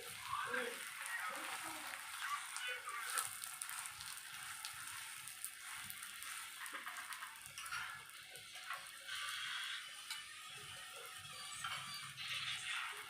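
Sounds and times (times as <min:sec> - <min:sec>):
flatbread sizzling in a pan: 0:00.0 - 0:13.0.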